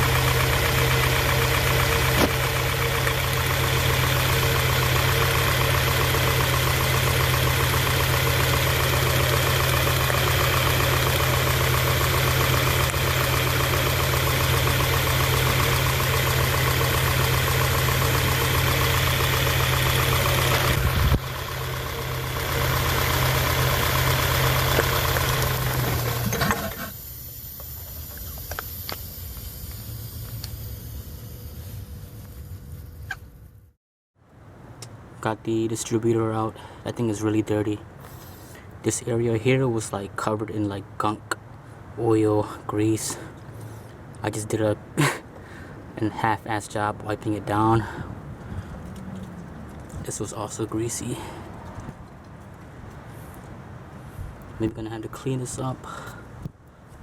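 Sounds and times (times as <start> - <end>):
car engine idling rough: 0.0 - 33.8, 37.8 - 40.3, 45.0 - 56.9.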